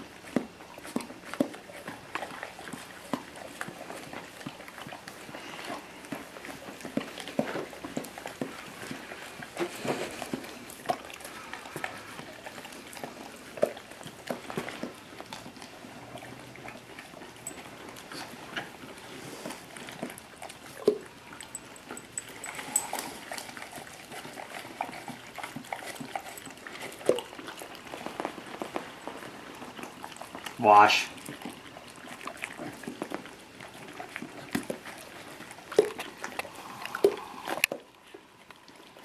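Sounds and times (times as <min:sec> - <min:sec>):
dog licking and slurping: 0:00.0 - 0:39.0.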